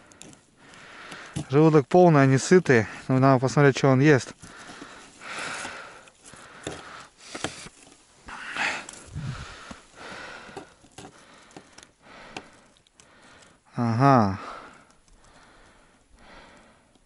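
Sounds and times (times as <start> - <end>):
man breathing and sniffing: 0.0 - 1.5, 4.3 - 17.0.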